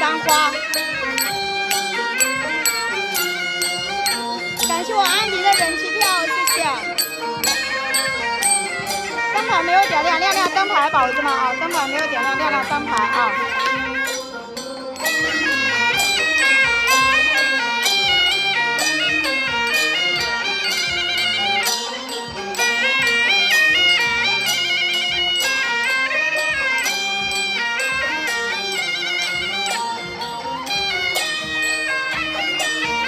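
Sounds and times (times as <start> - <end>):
wind instrument melody over beat: 0.0 - 33.0.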